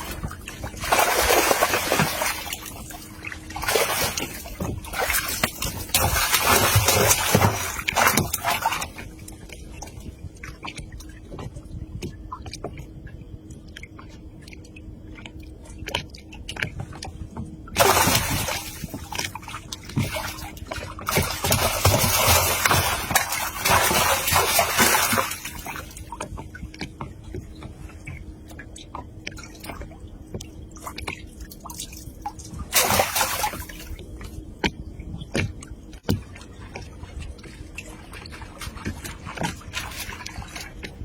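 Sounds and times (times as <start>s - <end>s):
water splashing and sloshing: 0.0s - 41.0s.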